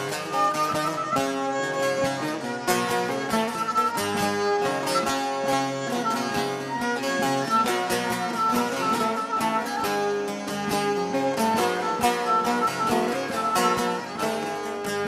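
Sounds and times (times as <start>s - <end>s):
plucked lutes playing folk tune: 0.0s - 15.0s.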